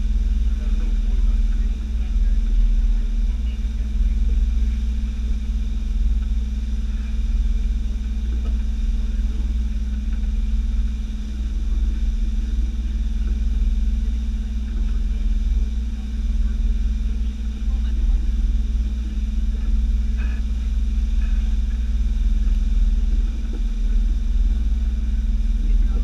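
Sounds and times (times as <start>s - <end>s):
boat engines droning: 0.0s - 26.0s.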